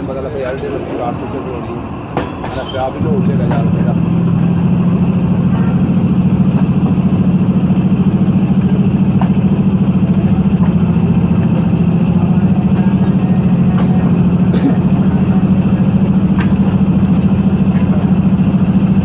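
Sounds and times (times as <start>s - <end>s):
diesel locomotive engine idling: 0.0s - 19.0s.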